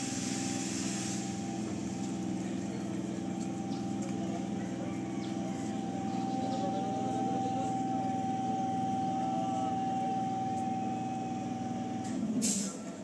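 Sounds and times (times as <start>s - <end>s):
train equipment humming whine: 0.0s - 13.0s.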